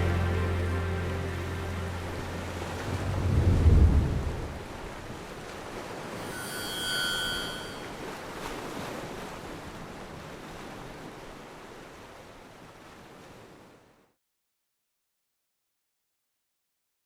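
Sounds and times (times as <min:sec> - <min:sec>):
sea rushing: 0:00.0 - 0:13.9.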